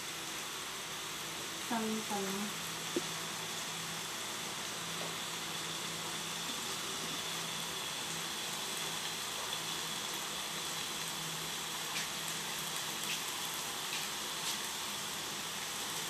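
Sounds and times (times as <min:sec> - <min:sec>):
stew simmering in a pot: 0:00.0 - 0:16.0.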